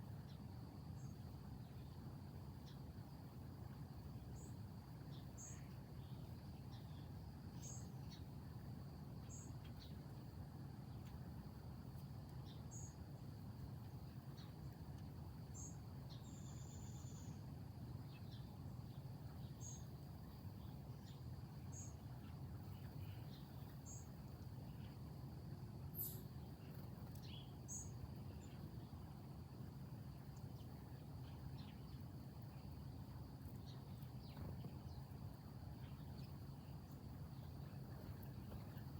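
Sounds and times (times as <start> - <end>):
crickets droning: 0.0 - 38.9
low background rumble: 0.0 - 38.9.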